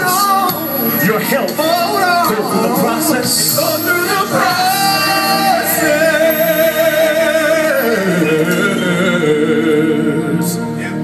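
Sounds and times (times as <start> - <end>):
band playing sustained chords: 0.0 - 11.0
person singing with vibrato: 0.0 - 11.0.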